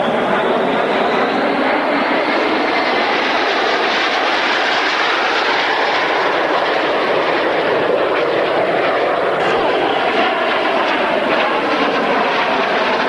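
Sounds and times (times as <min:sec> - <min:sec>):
jets flying overhead: 0:00.0 - 0:13.0.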